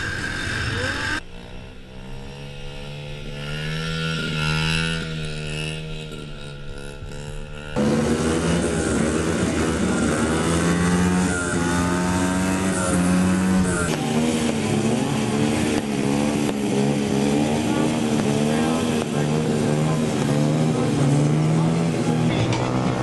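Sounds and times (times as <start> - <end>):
small engine revving: 0.0 - 23.0.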